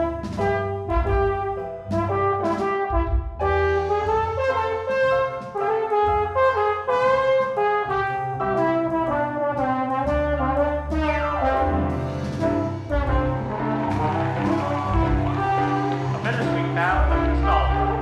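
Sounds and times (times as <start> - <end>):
low bass notes: 0.0 - 18.0
trombone playing jazz melody: 0.0 - 18.0.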